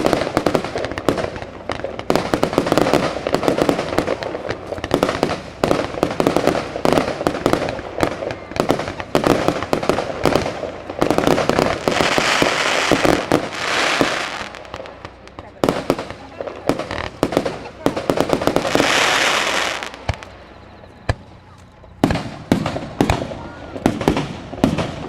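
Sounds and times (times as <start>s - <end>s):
fireworks crackling pops: 0.0s - 25.0s
fireworks hissing: 0.0s - 25.0s.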